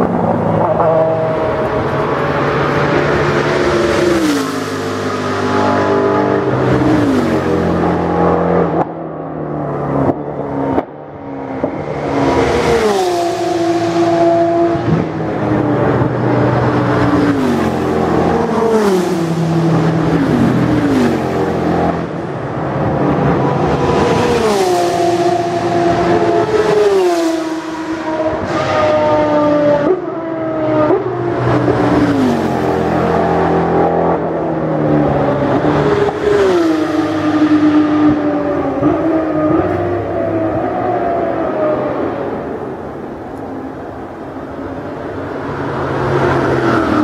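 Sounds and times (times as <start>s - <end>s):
race cars passing at speed: 0.0s - 47.0s.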